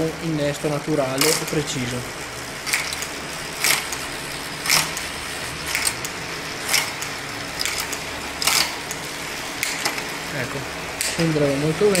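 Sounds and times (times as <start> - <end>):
bike chain running over cassette: 0.0 - 12.0.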